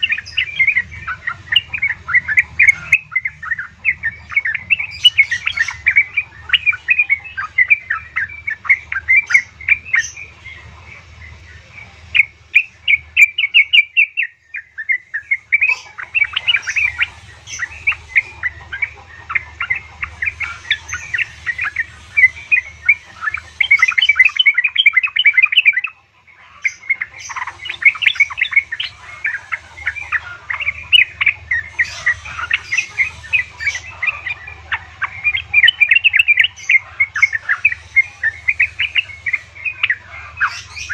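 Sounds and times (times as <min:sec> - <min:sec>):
bird chattering calls: 0:00.0 - 0:40.9.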